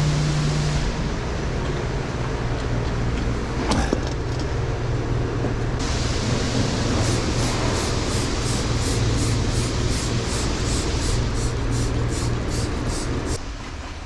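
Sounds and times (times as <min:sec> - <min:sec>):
road noise: 0:00.0 - 0:14.0
vehicle engine drone: 0:00.0 - 0:14.0.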